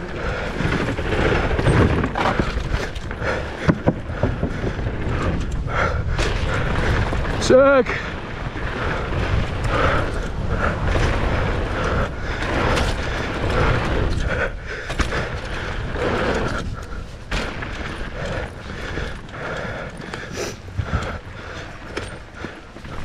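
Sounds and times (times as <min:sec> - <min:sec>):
bike knocking and rattling: 0:00.0 - 0:23.0
rumble of wind and tyres: 0:00.0 - 0:23.0.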